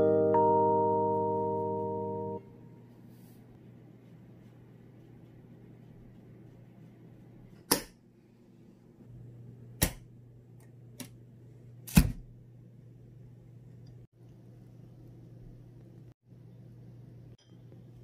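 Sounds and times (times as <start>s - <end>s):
faint low hum: 0.6s - 18.0s.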